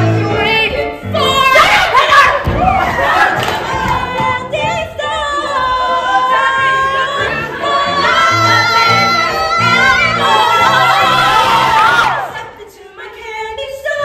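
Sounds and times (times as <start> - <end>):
musical accompaniment: 0.0 - 14.0
women singing: 0.0 - 14.0.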